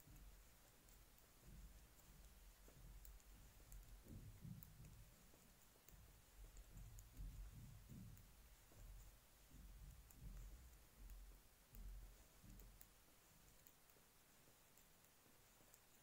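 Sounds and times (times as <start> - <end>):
knitting needles clicking: 0.0 - 16.0
soft rubbing of yarn: 0.0 - 16.0.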